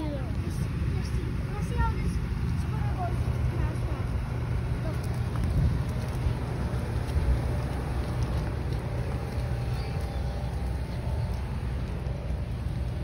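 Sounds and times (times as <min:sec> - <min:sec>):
scooter wheels rolling on asphalt: 0:00.0 - 0:13.0.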